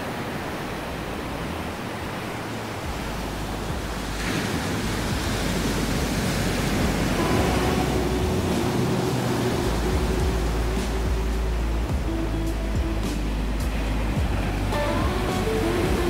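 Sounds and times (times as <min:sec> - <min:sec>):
waves breaking on beach: 0:00.0 - 0:16.0
faint held musical tones: 0:00.7 - 0:16.0.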